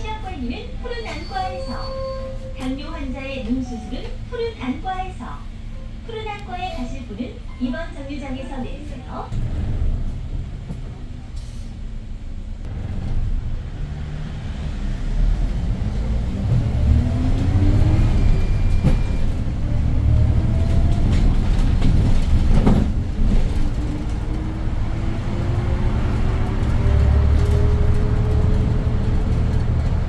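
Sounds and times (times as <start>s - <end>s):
bus engine accelerating: 0.0s - 30.0s.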